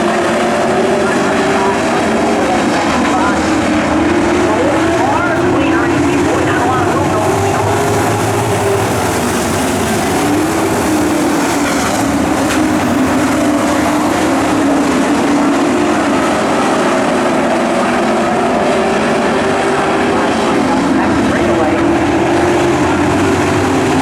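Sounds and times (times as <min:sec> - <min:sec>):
racing truck engines: 0:00.0 - 0:24.0.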